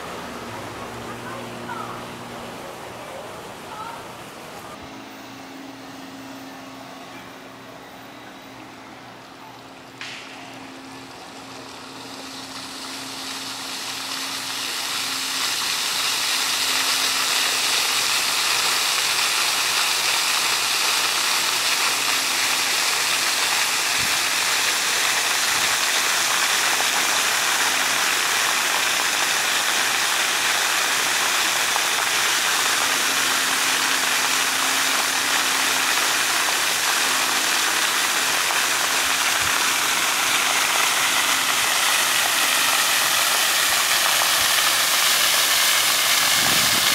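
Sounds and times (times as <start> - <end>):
fountain water splashing on pavement: 0.0 - 4.8, 10.0 - 46.9.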